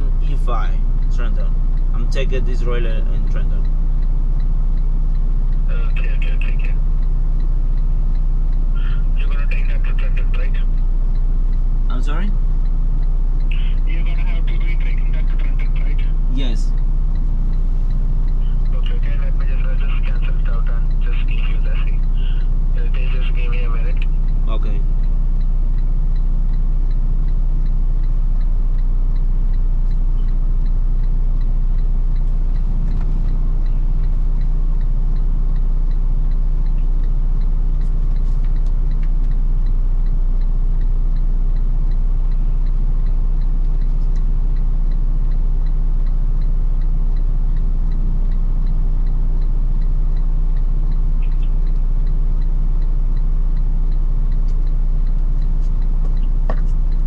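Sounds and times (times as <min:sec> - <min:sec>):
diesel engine idling: 0:00.0 - 0:57.0
faint ticking: 0:00.0 - 0:57.0.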